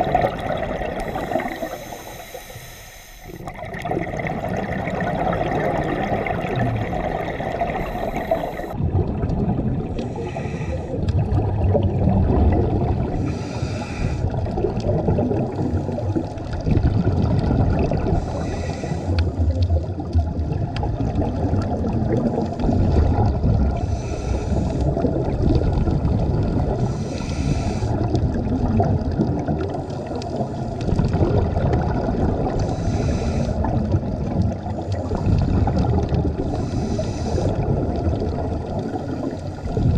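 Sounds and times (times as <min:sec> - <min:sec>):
exhaled air bubbling: 0:00.0 - 0:39.9
underwater rush of water: 0:00.0 - 0:39.9.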